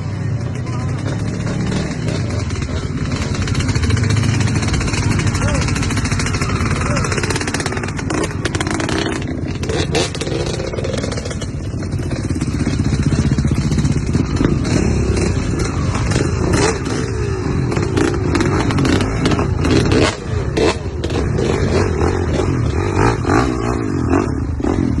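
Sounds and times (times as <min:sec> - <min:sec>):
off-road vehicle engines revving: 0:00.0 - 0:25.0.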